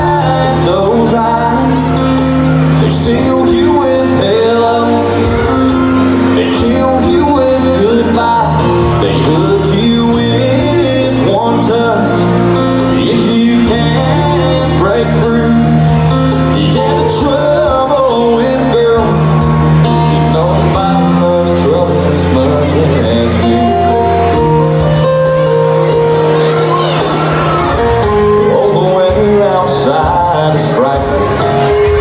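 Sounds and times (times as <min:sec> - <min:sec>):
country band playing: 0:00.0 - 0:32.0
man singing: 0:00.0 - 0:32.0.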